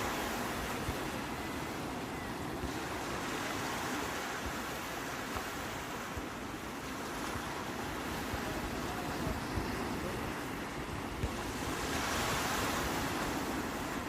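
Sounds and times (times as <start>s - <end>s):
waves washing on shore: 0.0s - 14.0s.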